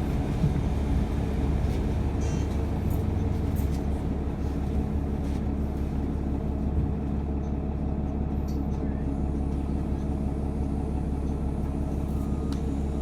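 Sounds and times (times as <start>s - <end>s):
transit vehicle low rumble: 0.0s - 13.0s.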